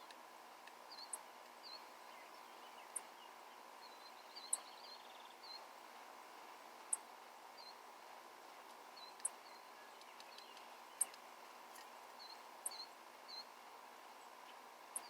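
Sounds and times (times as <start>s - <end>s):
songbirds calling: 0.0s - 15.0s.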